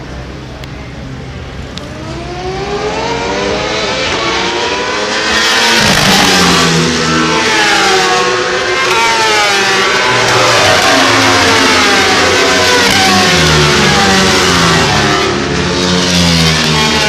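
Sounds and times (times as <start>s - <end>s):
racing motorcycle engines accelerating: 0.0s - 17.0s.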